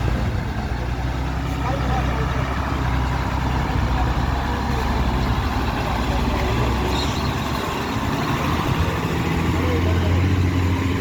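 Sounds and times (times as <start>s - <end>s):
truck and bus engines droning: 0.0s - 11.0s.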